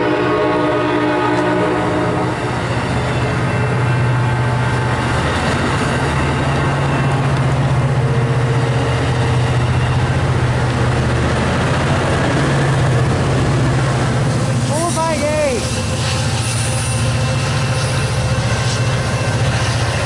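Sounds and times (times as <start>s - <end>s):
diesel locomotive engine droning: 0.0s - 20.0s.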